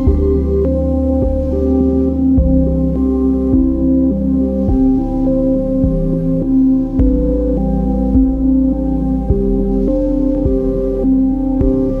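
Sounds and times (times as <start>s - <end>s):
ambient synthesizer chords: 0.0s - 12.0s.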